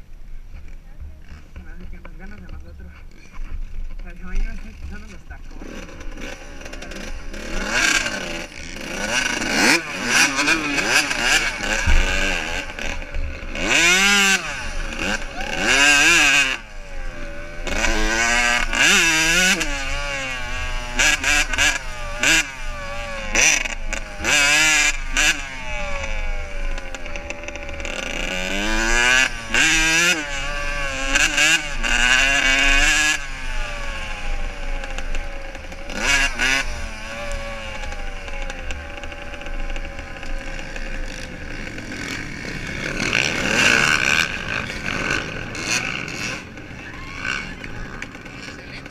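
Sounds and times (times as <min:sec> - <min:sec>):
motorcycle engines revving: 0:00.0 - 0:48.9.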